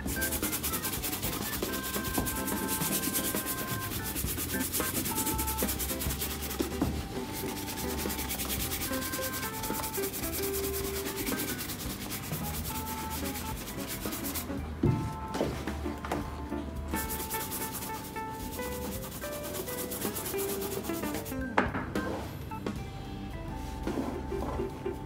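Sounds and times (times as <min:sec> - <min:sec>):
brush scrubbing leather boot: 0:00.0 - 0:16.0, 0:16.9 - 0:21.4.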